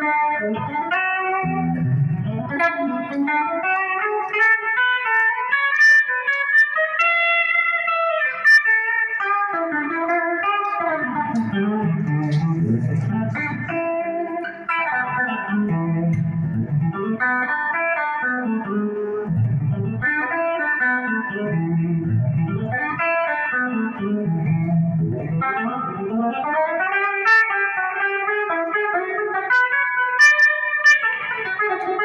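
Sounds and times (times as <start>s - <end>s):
electric guitar melodic runs: 0.0s - 32.0s.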